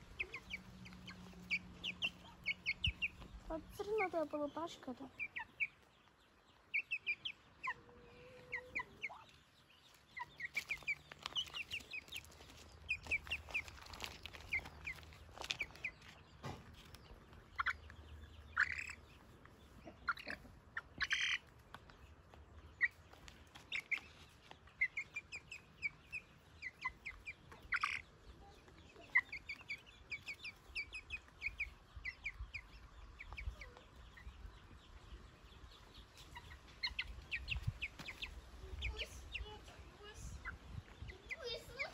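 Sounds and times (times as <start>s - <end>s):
ducklings and chick peeping: 0.0s - 41.9s.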